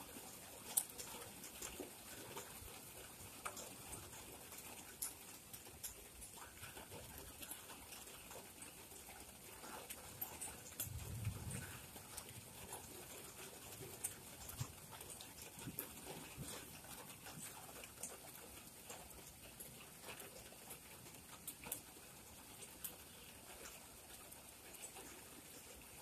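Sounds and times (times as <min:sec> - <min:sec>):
rain drops pattering: 0:00.0 - 0:26.0.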